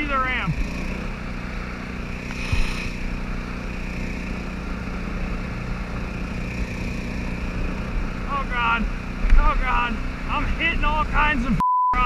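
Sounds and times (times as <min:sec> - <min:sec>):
outboard motor running: 0:00.0 - 0:11.6.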